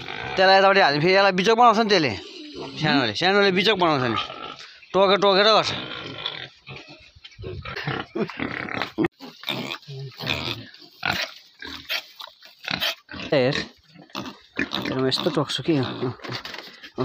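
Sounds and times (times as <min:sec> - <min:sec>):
pigs grunting: 0:00.0 - 0:01.0, 0:01.7 - 0:17.0.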